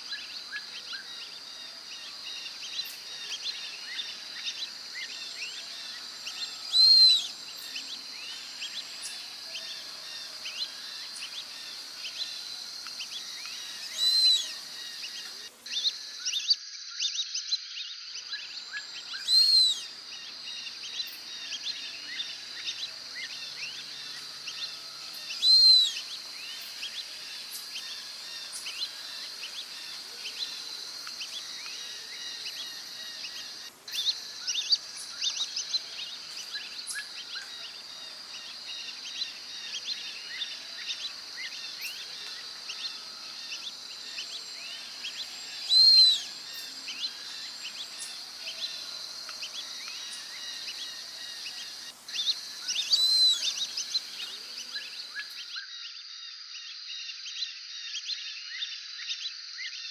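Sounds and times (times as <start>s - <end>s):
insects chorus: 0.0s - 59.9s.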